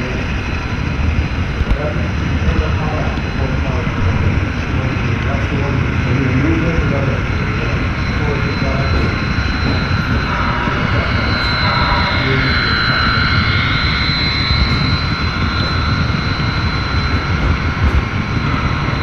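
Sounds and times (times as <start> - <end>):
high steady whine: 0.0 - 19.0.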